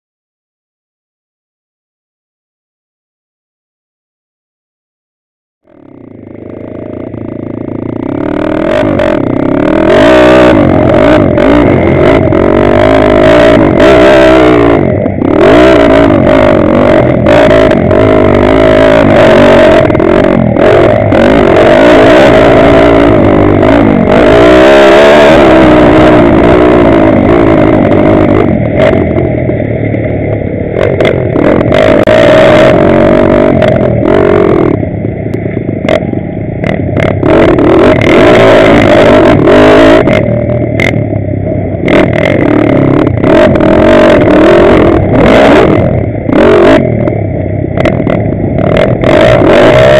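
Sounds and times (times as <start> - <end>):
engine clatter: 5.6 - 49.9
pit bike engine revving: 5.7 - 49.9.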